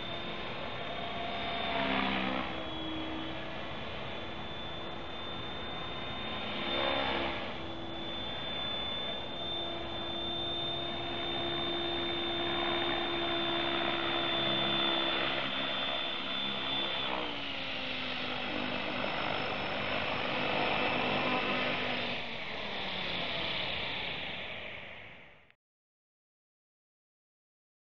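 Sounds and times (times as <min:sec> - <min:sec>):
rotor hum: 0:00.0 - 0:25.1
helicopter motor whine: 0:00.0 - 0:25.5.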